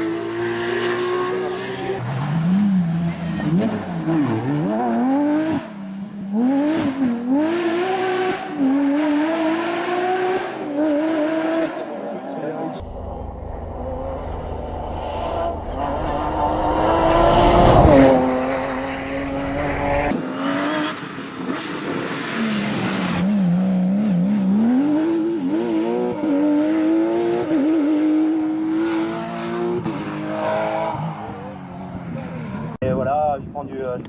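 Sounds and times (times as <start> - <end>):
race car engine revving: 0.0 - 32.8.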